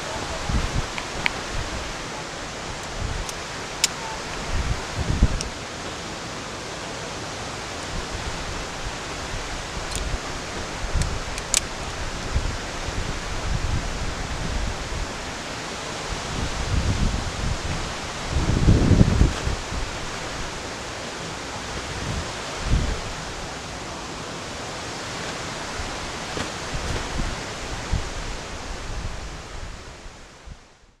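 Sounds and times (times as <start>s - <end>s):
waterfall rushing: 0.0s - 30.6s.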